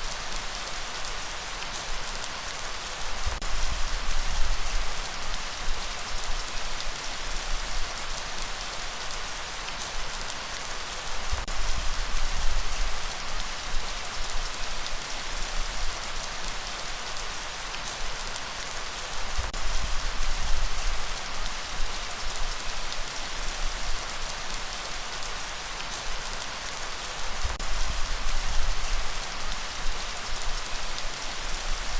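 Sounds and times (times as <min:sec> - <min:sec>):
steady rain falling: 0:00.0 - 0:31.9.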